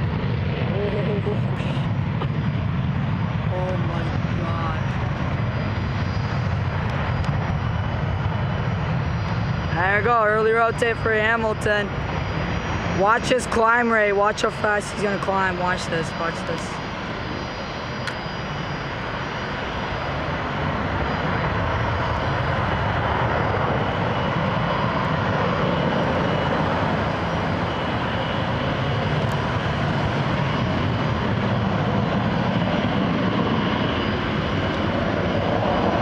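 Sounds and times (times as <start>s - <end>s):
jet engines roaring at takeoff: 0.0s - 36.0s.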